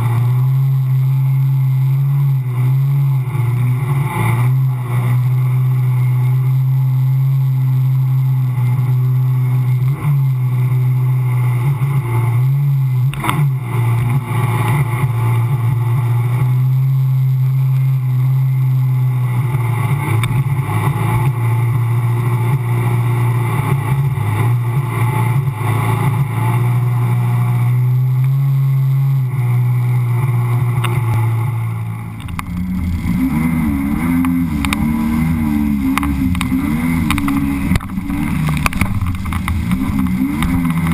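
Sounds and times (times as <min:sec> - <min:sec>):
personal watercraft engine running: 0:00.0 - 0:40.9.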